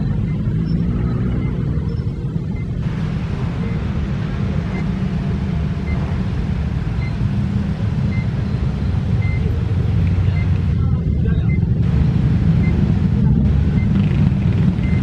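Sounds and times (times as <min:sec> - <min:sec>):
crossing warning tone: 0:00.0 - 0:15.0.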